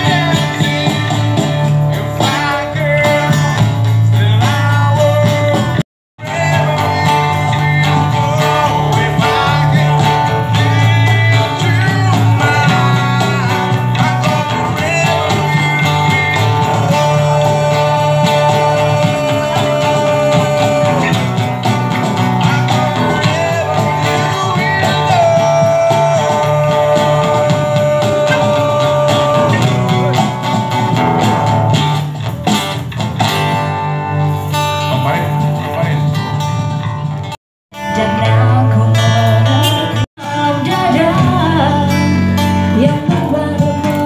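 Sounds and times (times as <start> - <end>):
man singing into a microphone: 0.0 - 30.7, 37.8 - 44.0
box drum: 0.0 - 37.3
strummed guitars: 0.0 - 44.0.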